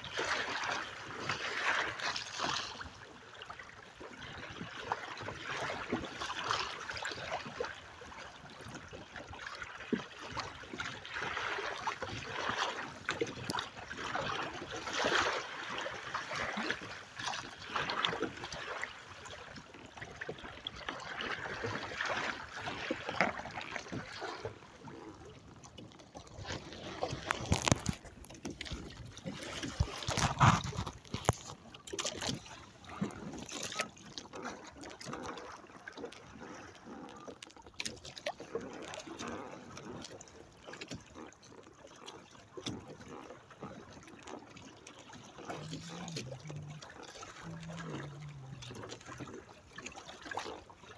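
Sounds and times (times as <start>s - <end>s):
water sloshing against a hull: 0.0s - 50.9s.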